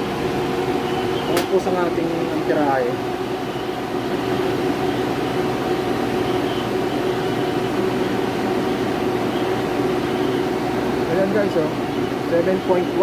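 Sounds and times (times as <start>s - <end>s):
freezer compressor humming: 0.0s - 13.0s.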